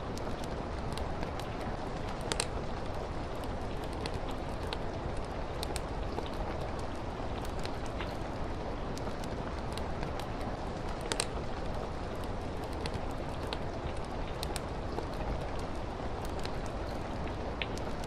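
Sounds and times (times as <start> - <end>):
rain against a window: 0.0 - 18.0
wood fire crackling and popping: 0.0 - 18.0.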